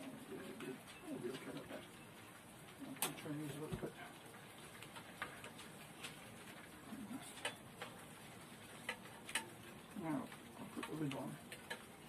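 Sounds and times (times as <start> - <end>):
faint frying hiss: 0.0 - 12.0.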